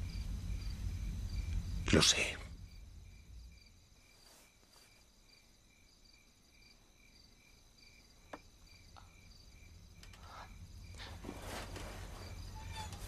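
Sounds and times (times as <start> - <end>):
faint crickets chirping: 0.0 - 13.0.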